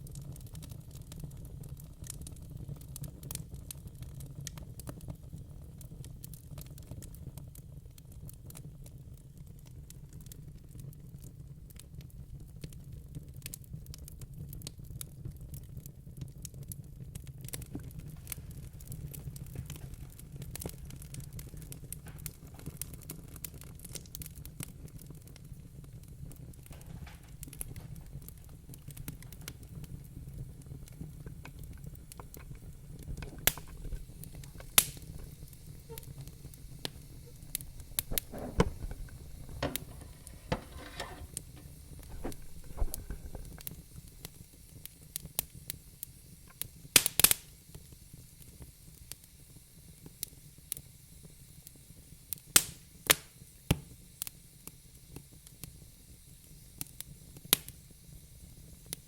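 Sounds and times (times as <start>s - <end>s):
crackles and pops of burning wood: 0.0s - 59.0s
fire burning in a fireplace: 0.0s - 59.0s.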